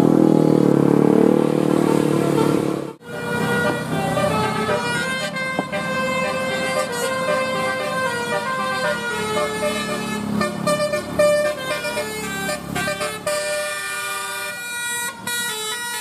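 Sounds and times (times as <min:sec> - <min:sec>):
musical air horn playing a tune: 0:01.7 - 0:16.0.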